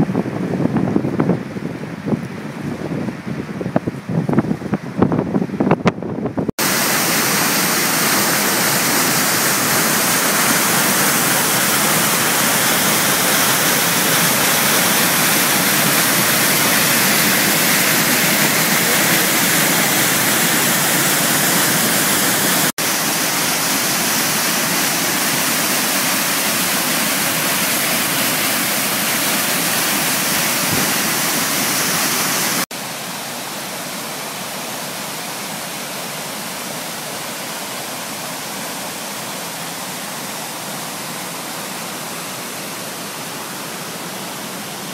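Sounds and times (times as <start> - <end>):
waterfall roaring: 6.4 - 44.9.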